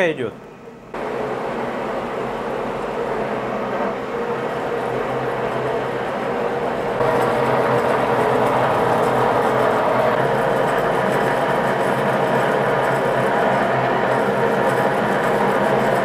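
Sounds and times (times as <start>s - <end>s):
lathe running under load: 1.0s - 16.0s.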